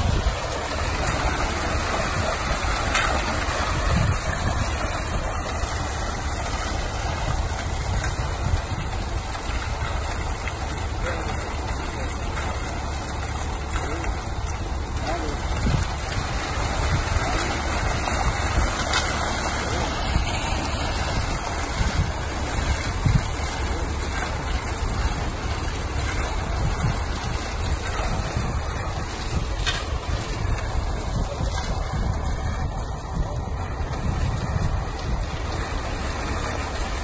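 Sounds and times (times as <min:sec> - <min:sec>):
concrete mixer drum turning: 0:00.0 - 0:37.0
rush of concrete sliding: 0:00.0 - 0:37.0.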